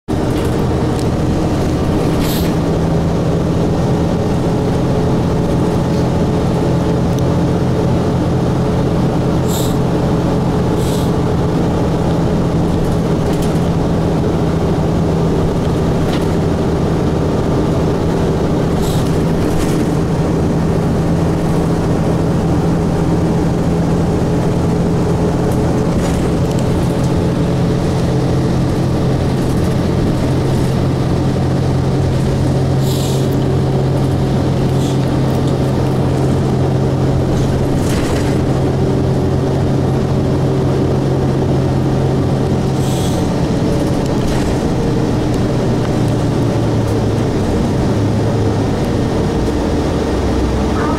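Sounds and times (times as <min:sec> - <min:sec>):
diesel bus engine idling: 0:00.1 - 0:50.9.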